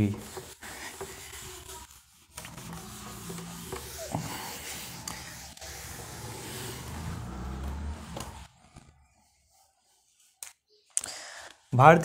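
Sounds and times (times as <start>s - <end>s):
duster rubbing on whiteboard: 0.0s - 10.4s.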